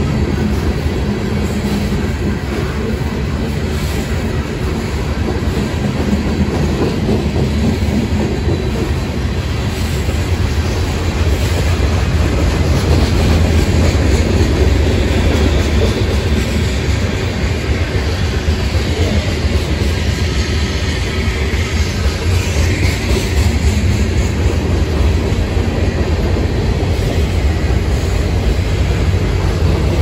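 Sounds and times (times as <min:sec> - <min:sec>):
clickety-clack over rail joints: 0:00.0 - 0:30.0
train wheels rumbling on rail: 0:00.0 - 0:30.0.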